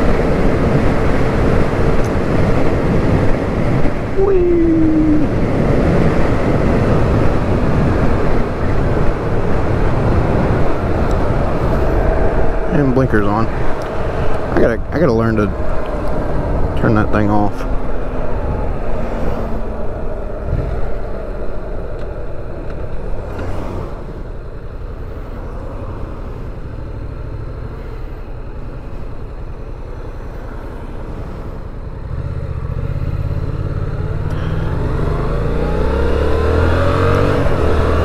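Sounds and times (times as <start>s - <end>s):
motorcycle engine: 0.0s - 38.0s
wind and road rush: 0.0s - 38.0s.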